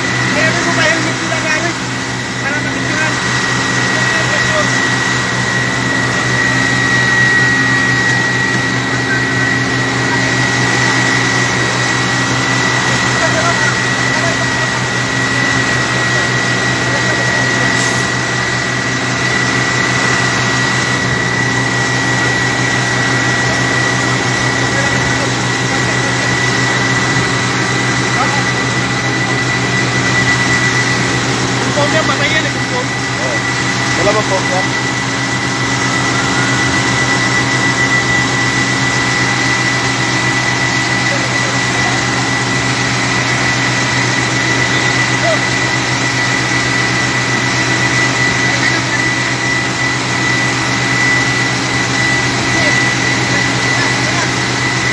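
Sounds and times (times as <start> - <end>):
engine with high-pitched whine: 0.0 - 54.9.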